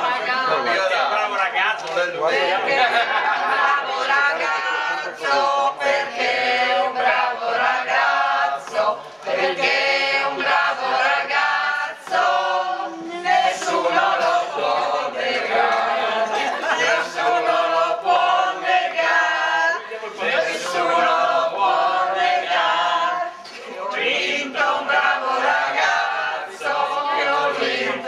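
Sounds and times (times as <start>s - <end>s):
group singing unaccompanied: 0.0s - 28.0s.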